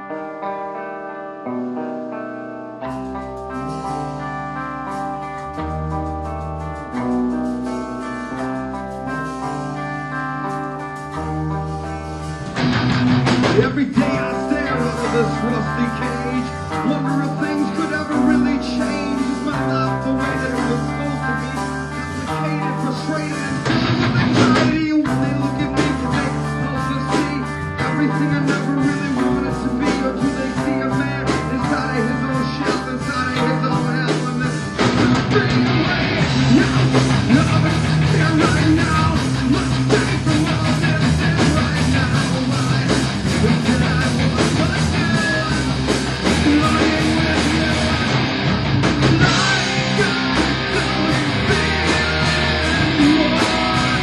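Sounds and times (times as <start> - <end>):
drums: 0.0 - 54.0
electric guitar: 0.0 - 54.0.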